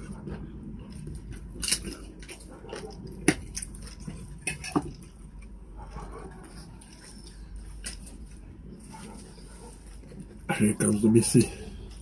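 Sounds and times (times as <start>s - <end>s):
chewing: 0.0s - 10.4s.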